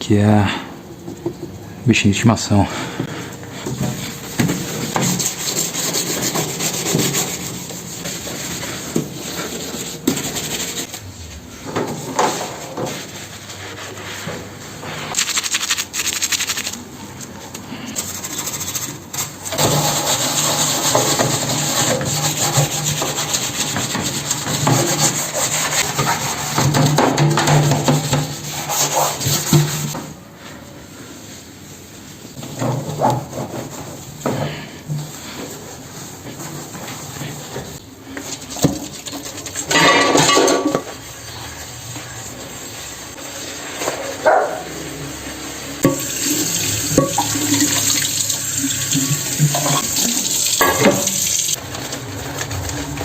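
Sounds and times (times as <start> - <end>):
scrubbing microwave surfaces: 3.0 - 30.2, 31.2 - 44.6, 45.8 - 52.4.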